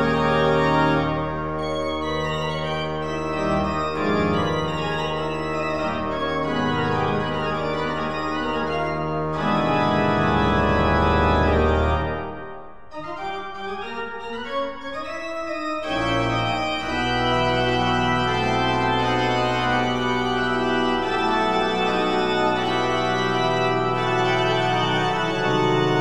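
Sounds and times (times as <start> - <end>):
music of long held chords: 0.0 - 26.0.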